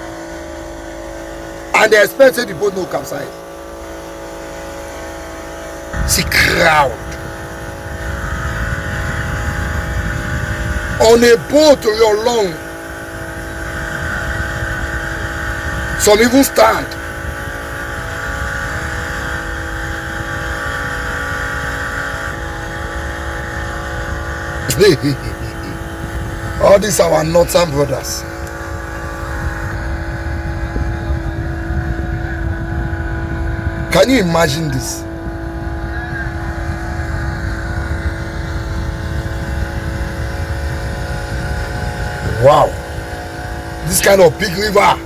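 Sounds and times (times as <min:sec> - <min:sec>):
engine drone: 0:00.0 - 0:45.0.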